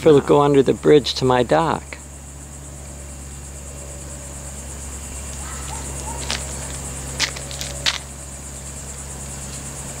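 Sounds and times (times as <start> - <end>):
insects trilling: 0.0 - 10.0
low hum: 0.0 - 10.0.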